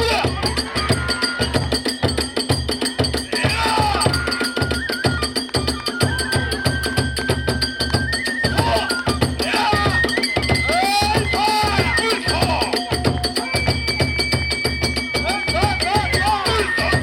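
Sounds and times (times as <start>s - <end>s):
drums beating fast: 0.0s - 17.0s
hand cymbals: 0.0s - 17.0s
flute holding high notes: 3.3s - 17.0s.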